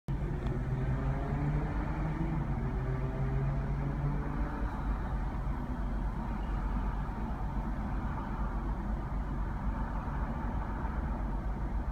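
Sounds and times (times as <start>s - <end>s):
street traffic: 0.1s - 11.9s
vehicle engine humming: 0.1s - 11.9s.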